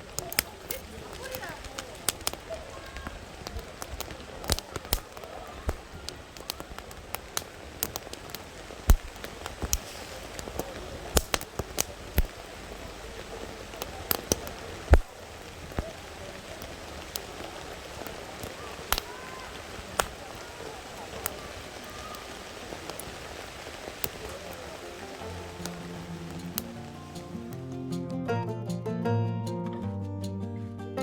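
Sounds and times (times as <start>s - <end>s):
wood fire crackling: 0.0s - 28.3s.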